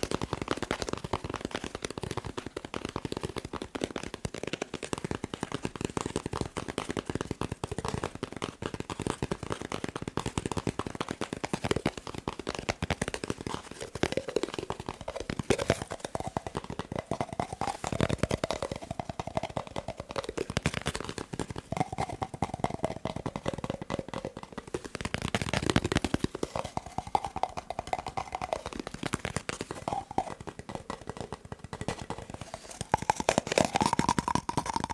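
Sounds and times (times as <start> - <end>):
fast tapping on paper roll: 0.0 - 34.9.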